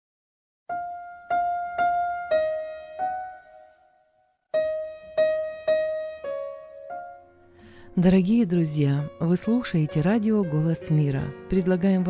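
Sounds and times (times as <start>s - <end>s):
slow solo piano melody: 0.7s - 11.8s.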